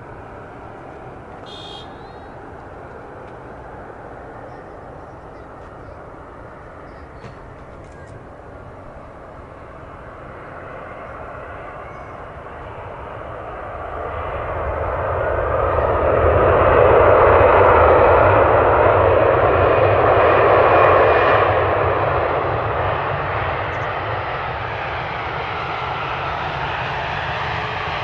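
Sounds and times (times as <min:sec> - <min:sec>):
jet airliner passing by: 0:00.0 - 0:28.0.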